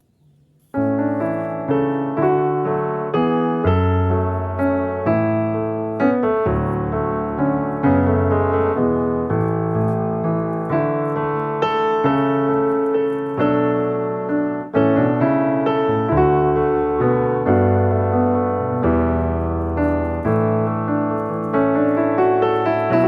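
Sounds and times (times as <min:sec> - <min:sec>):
background piano music: 0:00.6 - 0:23.0.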